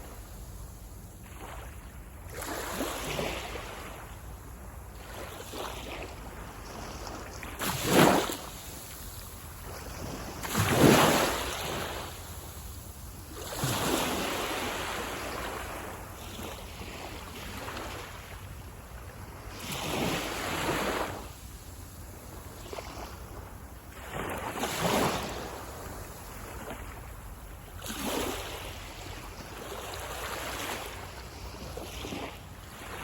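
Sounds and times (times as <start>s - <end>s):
sea waves breaking on beach: 1.2s - 4.2s, 4.9s - 18.4s, 19.2s - 21.5s, 22.1s - 27.1s, 27.7s - 33.0s.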